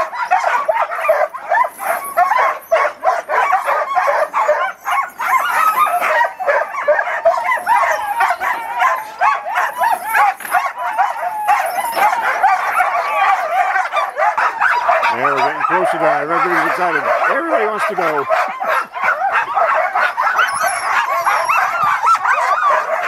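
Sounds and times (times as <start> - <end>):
dogs barking and yipping: 0.0 - 23.0.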